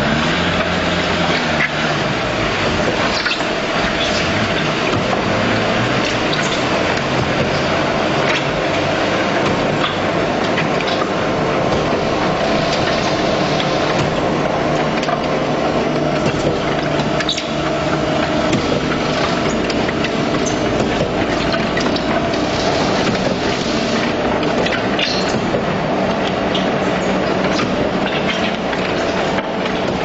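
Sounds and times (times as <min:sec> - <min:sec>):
concrete pump machine hum: 0:00.0 - 0:30.0.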